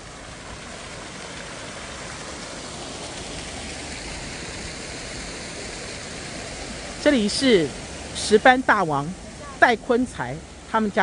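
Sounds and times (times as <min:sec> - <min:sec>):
aerator churning water: 0:00.0 - 0:11.0.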